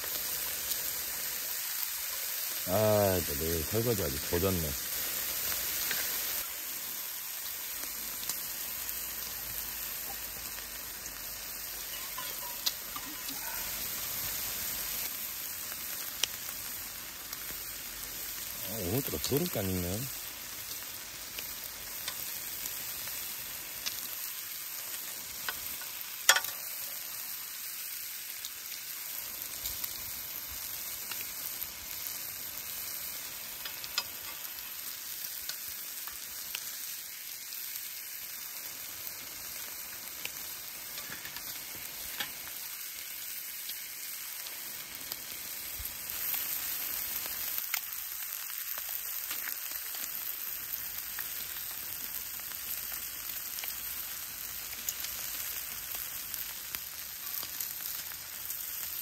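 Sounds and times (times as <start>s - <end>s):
food sizzling in a pan: 0.0s - 59.0s.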